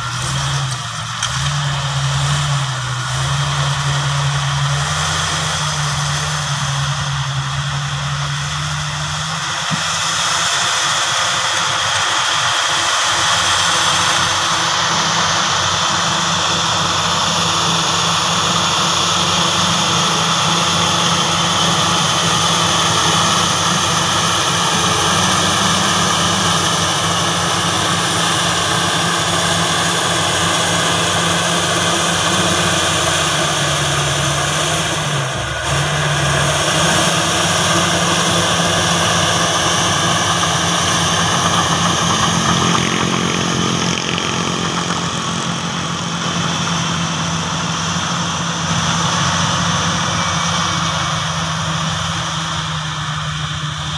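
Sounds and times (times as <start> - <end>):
bulldozer diesel engine running: 0.0 - 53.9
high whine: 0.0 - 53.9.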